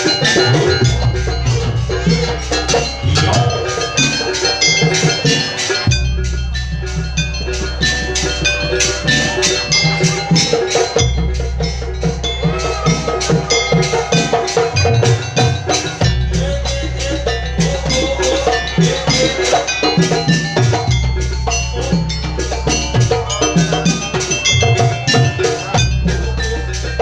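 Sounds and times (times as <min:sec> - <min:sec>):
drums and metallophones: 0:00.0 - 0:27.0
wavering melody line: 0:00.0 - 0:27.0.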